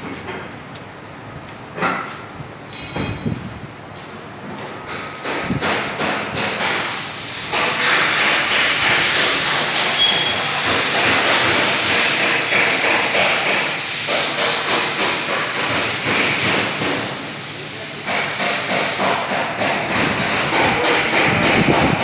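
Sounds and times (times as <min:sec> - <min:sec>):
wall fans rushing air: 0:00.0 - 0:22.0.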